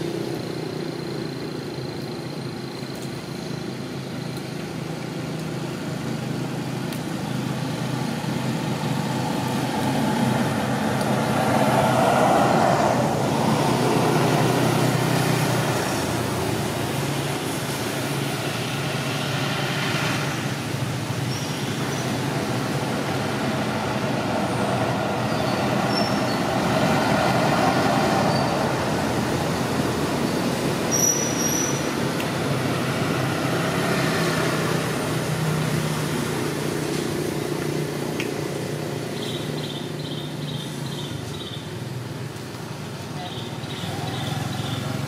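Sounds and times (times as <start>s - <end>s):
traffic rumble: 0.0s - 45.0s.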